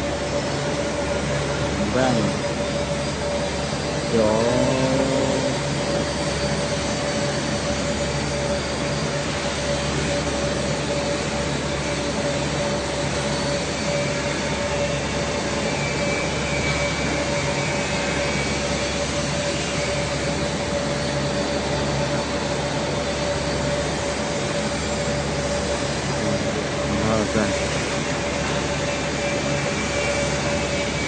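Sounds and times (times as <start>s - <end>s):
machinery hum with whine: 0.0s - 31.0s.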